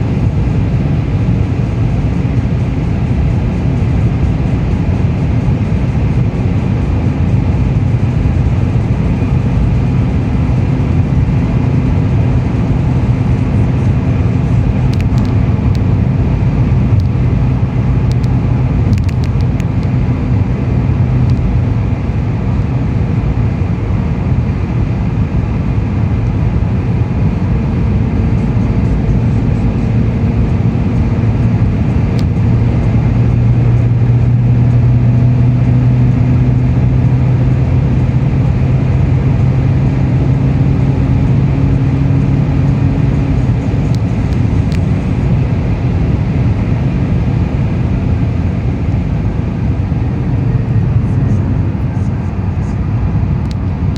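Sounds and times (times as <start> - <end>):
car engine drone: 0.0 - 53.9
road and tyre noise: 0.0 - 53.9.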